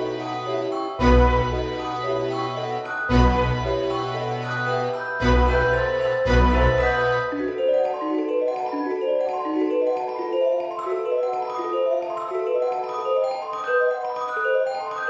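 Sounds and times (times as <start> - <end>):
mallet percussion notes: 0.0 - 15.0.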